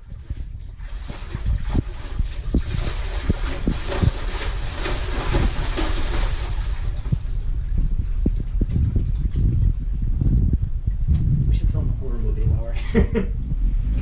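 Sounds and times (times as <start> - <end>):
water splashing and sloshing: 0.0 - 12.6
wind buffeting microphone: 0.0 - 14.0.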